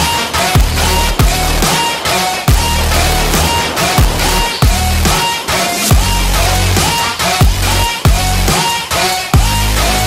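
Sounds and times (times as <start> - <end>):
bass-driven electronic beat: 0.0 - 10.0.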